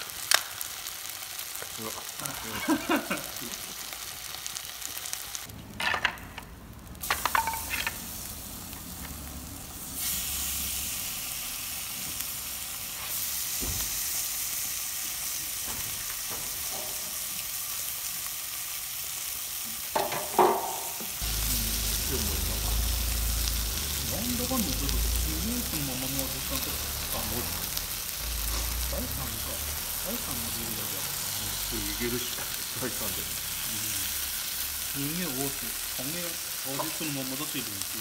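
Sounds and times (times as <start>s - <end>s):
meat sizzling in a frying pan: 0.0s - 5.5s, 6.6s - 38.0s.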